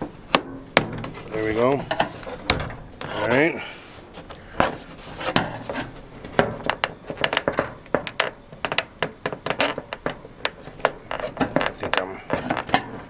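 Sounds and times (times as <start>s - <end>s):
hand tools and plastic parts clicking: 0.0s - 13.0s.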